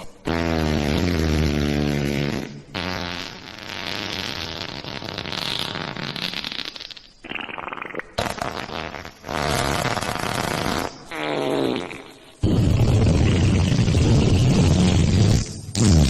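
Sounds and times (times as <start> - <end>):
wet fart sounds: 0.2 - 16.0.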